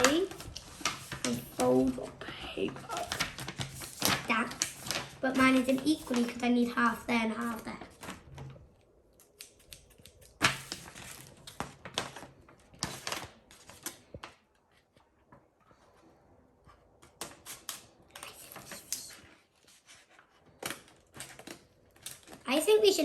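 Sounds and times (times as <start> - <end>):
paper rustling and crinkling: 0.0 - 23.0.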